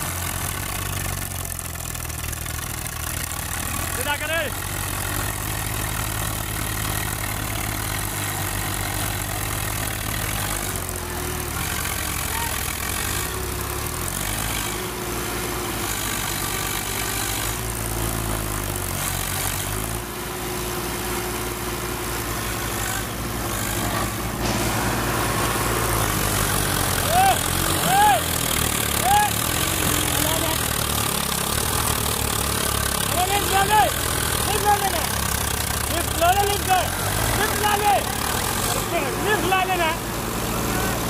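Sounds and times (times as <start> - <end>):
tractor diesel engines under load: 0.0 - 41.0.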